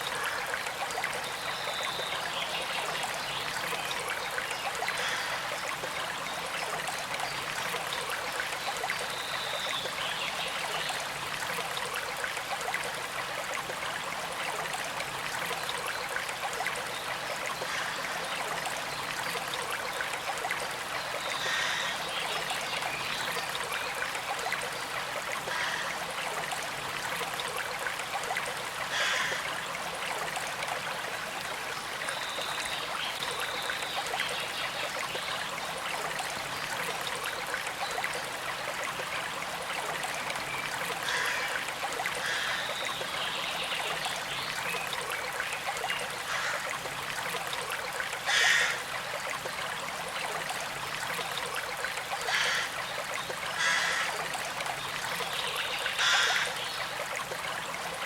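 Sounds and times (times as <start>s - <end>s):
stream trickling: 0.0s - 58.0s
water splashes and gurgles: 0.0s - 58.0s.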